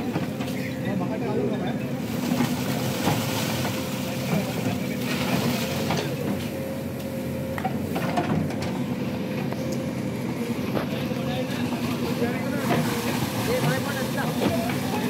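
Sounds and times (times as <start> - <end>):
excavator diesel engine whining: 0.0 - 15.0.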